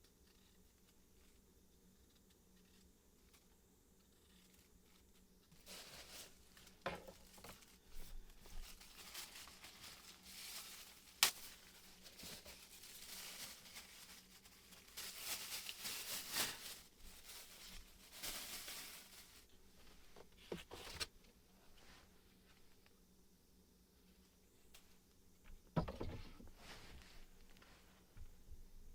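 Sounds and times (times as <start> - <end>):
rustling and crinkling handling noise: 2.1 - 22.9, 24.1 - 28.3.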